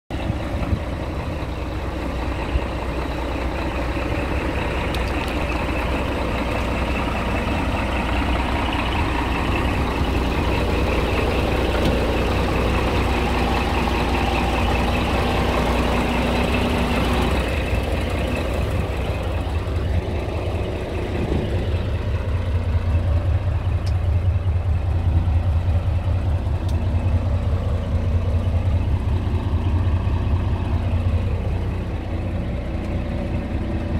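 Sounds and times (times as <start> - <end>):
truck diesel engine idling: 0.1 - 33.9.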